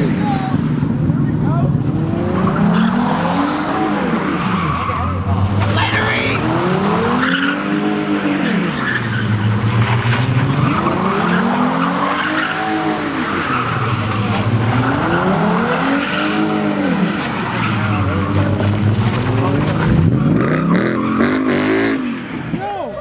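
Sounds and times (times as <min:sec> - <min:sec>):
car engine revving hard: 0:00.0 - 0:22.6
tyres screeching on pavement: 0:02.0 - 0:22.2.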